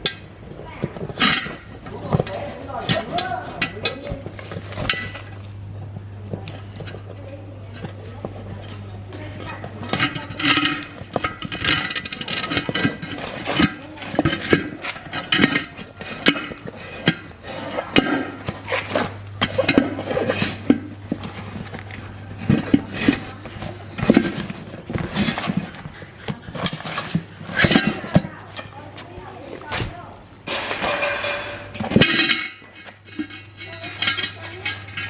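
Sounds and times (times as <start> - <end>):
metal tools clinking and knocking: 0.0 - 5.5, 9.4 - 29.0, 30.4 - 35.0
steady low hum: 0.0 - 35.0.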